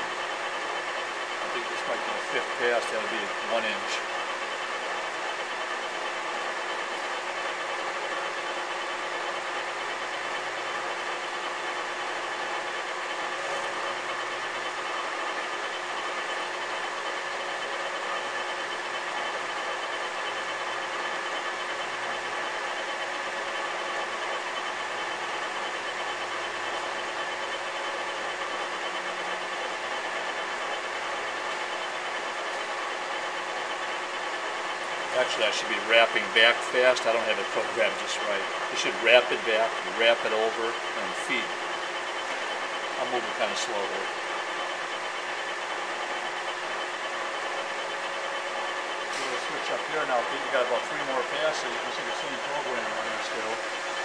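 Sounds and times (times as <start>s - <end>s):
lathe machine hum: 0.0s - 54.0s.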